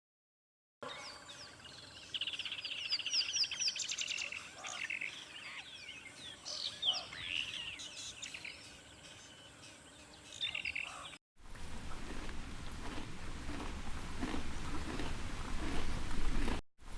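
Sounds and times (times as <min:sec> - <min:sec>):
birds chirping and trilling: 0:00.8 - 0:16.4.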